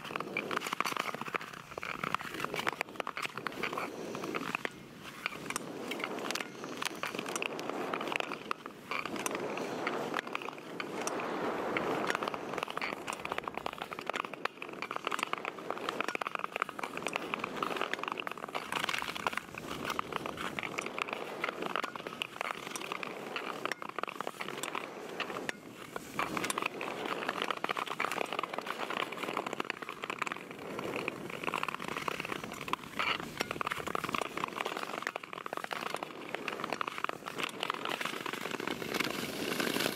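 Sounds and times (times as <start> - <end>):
ice skate blades scraping ice: 0.0 - 39.9.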